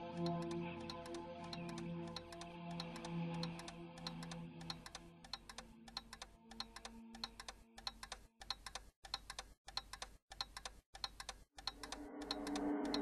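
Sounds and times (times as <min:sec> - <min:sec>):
clock ticking: 0:00.1 - 0:13.0.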